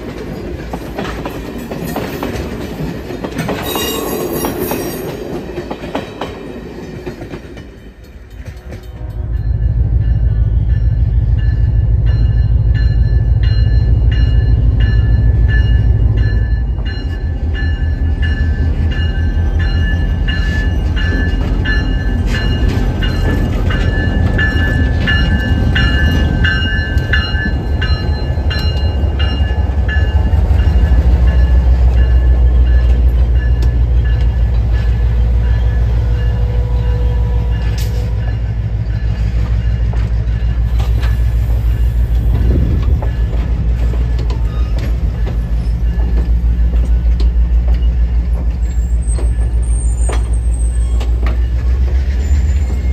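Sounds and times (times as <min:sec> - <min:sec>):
train coach rolling past: 0:00.0 - 0:52.9
diesel locomotive idling: 0:08.8 - 0:52.9.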